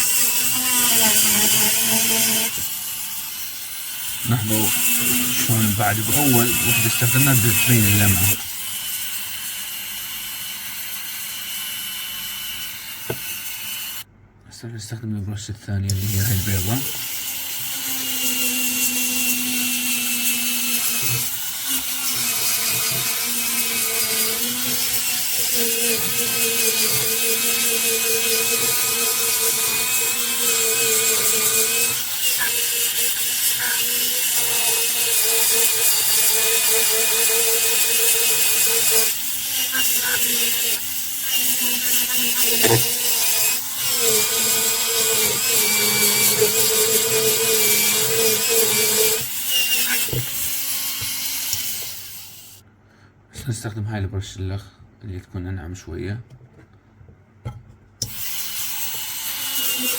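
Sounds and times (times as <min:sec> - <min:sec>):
dental handpiece whine: 0:00.0 - 0:14.0, 0:15.9 - 0:52.6, 0:58.0 - 0:59.9.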